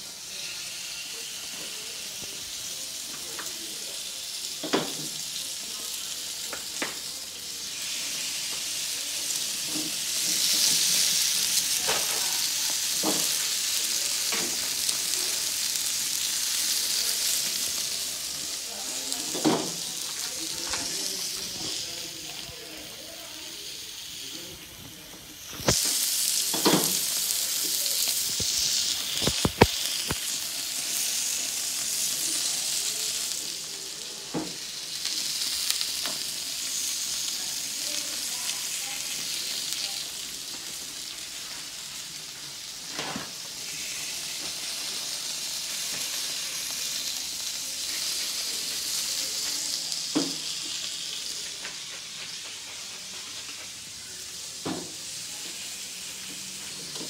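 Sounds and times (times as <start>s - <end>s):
steaks sizzling on grill: 0.0s - 57.0s.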